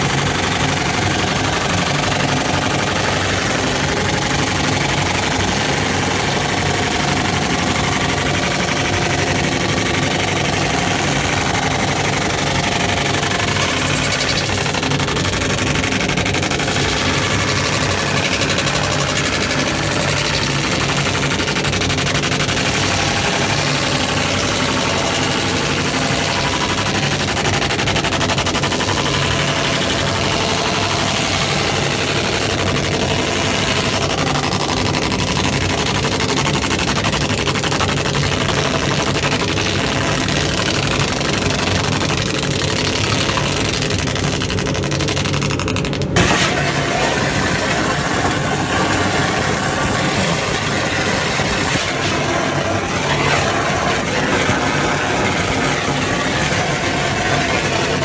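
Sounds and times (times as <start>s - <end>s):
laser engraver machine hum: 0.0s - 45.6s, 46.2s - 58.0s.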